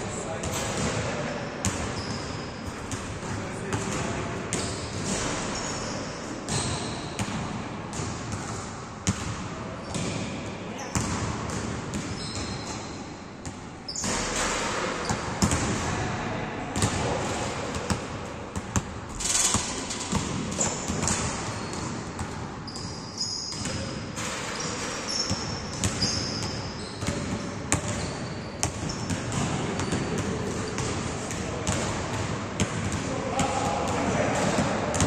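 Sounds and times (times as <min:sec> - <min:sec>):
basketballs bouncing on gym floor: 0:00.3 - 0:35.0
sneakers squeaking on court: 0:00.4 - 0:15.8, 0:16.8 - 0:31.9.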